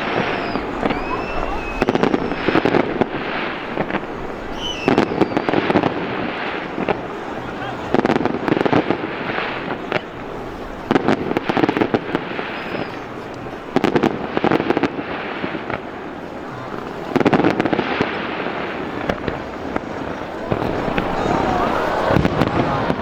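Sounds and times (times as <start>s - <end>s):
background hubbub: 0.0s - 23.0s
fireworks bangs and crackling: 0.0s - 23.0s.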